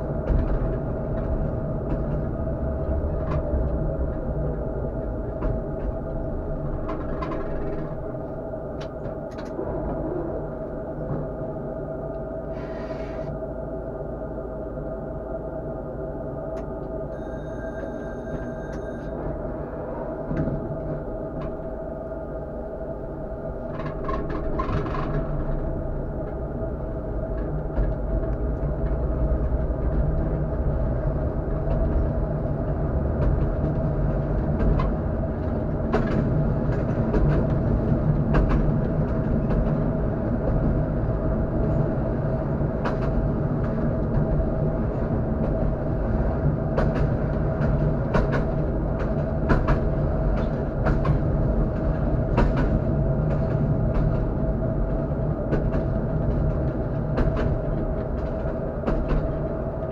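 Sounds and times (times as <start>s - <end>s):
tram wheels rumbling on rail: 0.0s - 59.9s.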